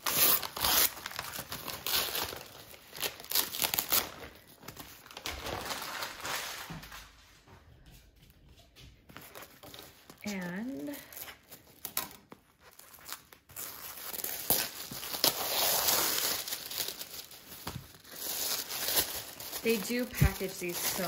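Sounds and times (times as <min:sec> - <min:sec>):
wrapping paper crumpling: 0:00.0 - 0:07.2, 0:09.1 - 0:21.0.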